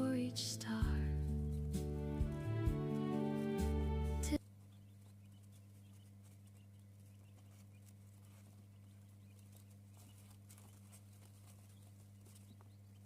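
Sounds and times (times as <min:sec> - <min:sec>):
quail pecking and stepping: 0:00.8 - 0:13.0.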